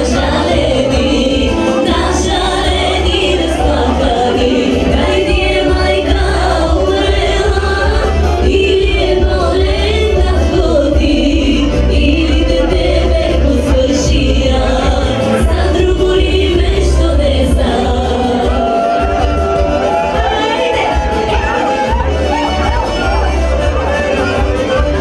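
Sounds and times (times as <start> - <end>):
woman singing into a microphone: 0.0 - 19.0, 20.0 - 21.6
amplified backing music with bass: 0.0 - 25.0.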